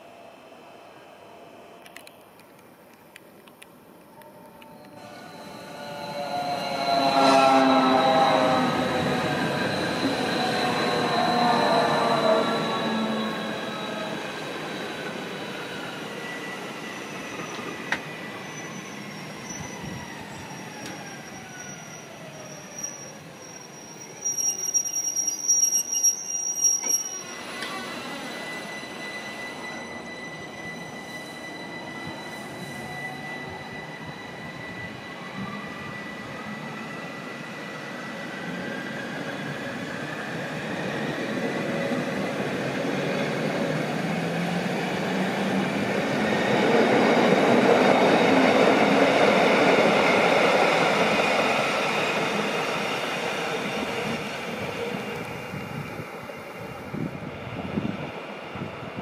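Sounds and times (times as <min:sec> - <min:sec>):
train wheels on rails: 0:01.8 - 0:23.4, 0:24.0 - 0:59.0.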